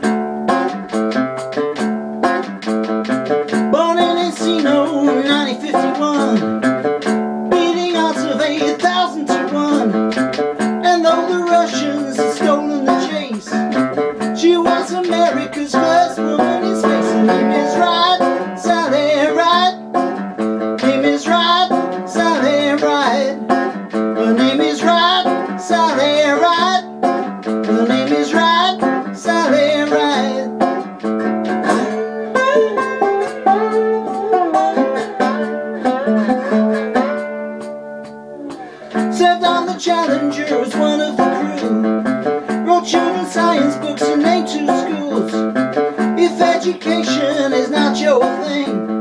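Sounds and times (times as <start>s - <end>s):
resonator guitar chords: 0.0s - 49.0s.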